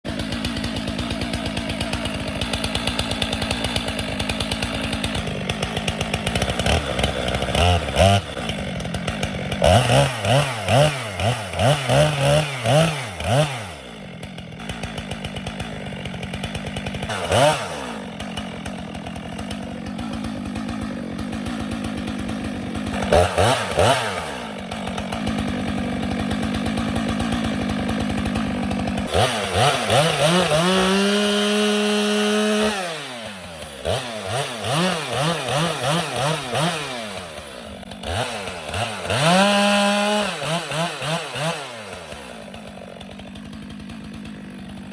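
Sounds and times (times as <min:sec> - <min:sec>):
chainsaw revving and cutting: 0:00.0 - 0:44.9.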